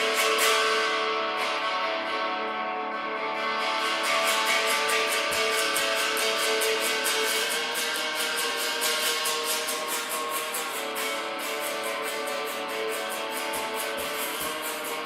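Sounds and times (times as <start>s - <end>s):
instrumental guitar music with beat: 0.0s - 15.0s.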